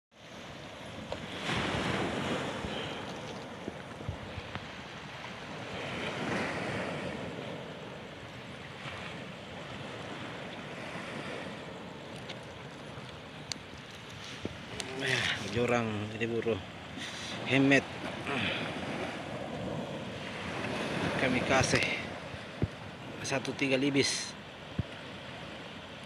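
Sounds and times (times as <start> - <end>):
rushing wind: 0.1 - 26.0
surf: 0.1 - 26.0.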